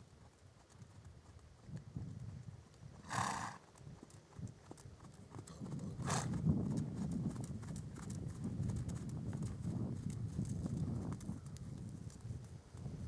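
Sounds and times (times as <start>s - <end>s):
hooves trotting on sand: 0.0s - 13.0s.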